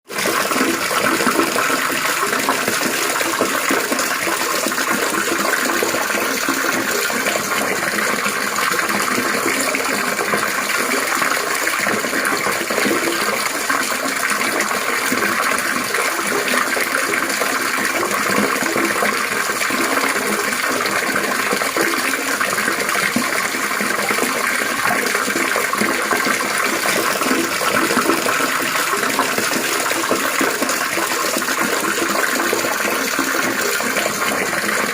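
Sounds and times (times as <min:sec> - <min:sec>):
water trickling and splashing: 0:00.1 - 0:34.9.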